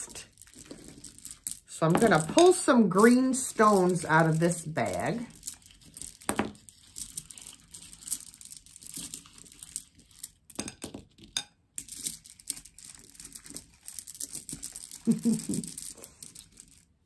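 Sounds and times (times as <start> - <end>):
bag of glass gems rustling: 0.0 - 10.6, 11.8 - 17.0.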